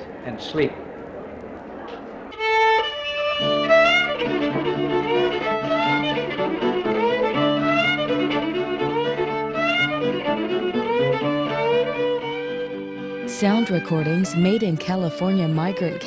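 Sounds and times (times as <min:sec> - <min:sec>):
fiddle playing lively tune: 0:02.3 - 0:16.0.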